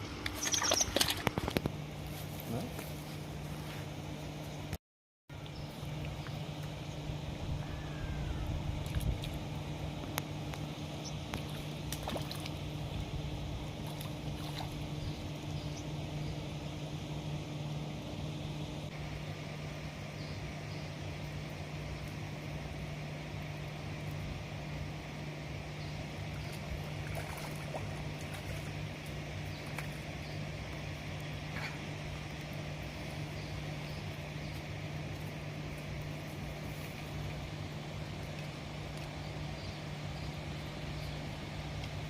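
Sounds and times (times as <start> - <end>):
low machine hum: 0.0 - 42.0
outdoor background noise: 0.0 - 42.0.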